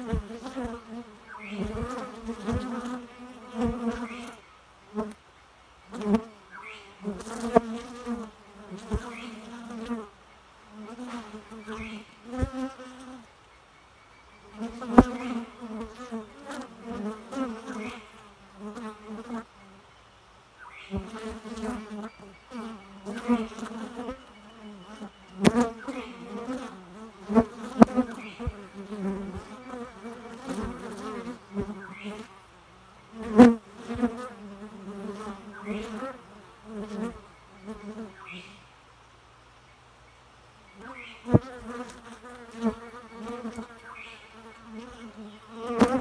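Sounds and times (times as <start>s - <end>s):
honey bees buzzing: 0.0s - 5.2s, 5.9s - 13.3s, 14.4s - 19.8s, 20.8s - 38.6s, 40.8s - 46.0s.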